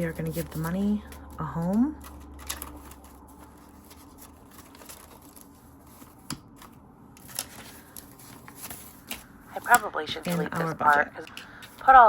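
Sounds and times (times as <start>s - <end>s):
banknotes rustling: 0.0s - 12.0s.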